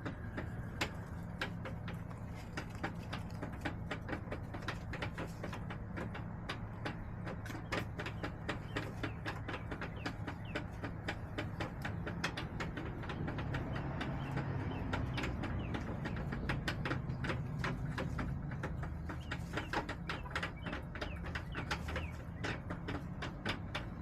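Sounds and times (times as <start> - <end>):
hens in a coop: 0.0 - 24.0
sharp irregular taps: 0.0 - 24.0.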